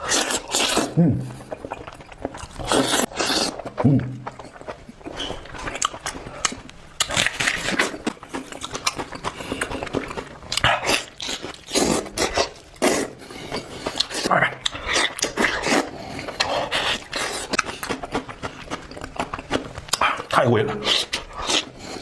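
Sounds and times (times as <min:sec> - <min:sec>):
person biting and chewing food: 0:00.0 - 0:22.0.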